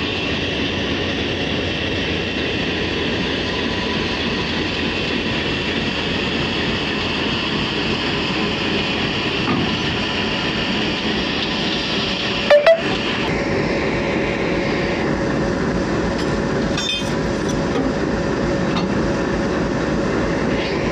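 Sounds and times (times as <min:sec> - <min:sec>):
locomotive engine rumbling: 0:00.0 - 0:20.9.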